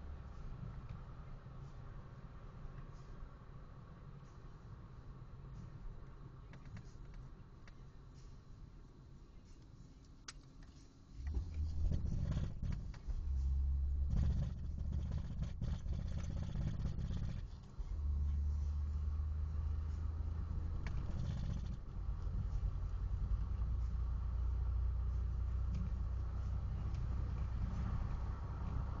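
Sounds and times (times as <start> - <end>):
car engine rumble and drone: 0.0 - 29.0.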